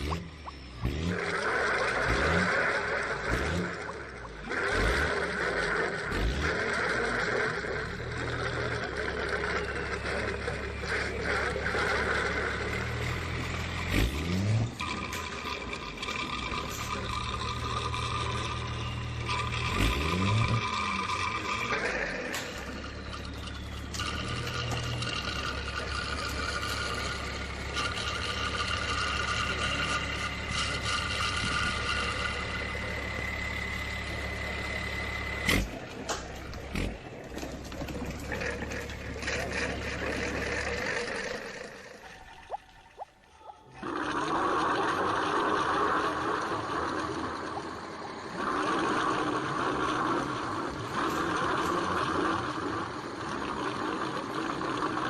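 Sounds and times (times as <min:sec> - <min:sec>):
truck diesel engine rumbling: 0:00.0 - 0:55.0.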